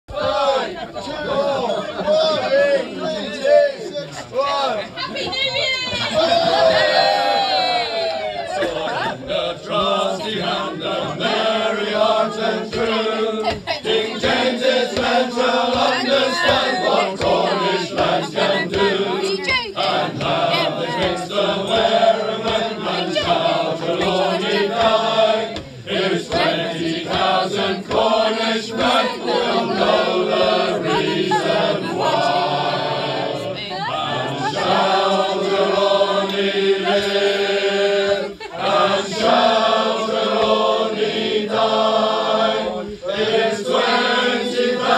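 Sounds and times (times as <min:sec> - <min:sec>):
male choir singing: 0:00.1 - 0:04.8, 0:08.4 - 0:44.9.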